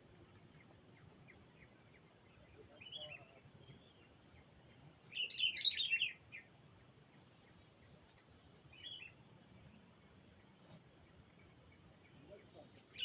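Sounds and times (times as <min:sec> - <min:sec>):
small songbird chirping: 0:00.0 - 0:13.0.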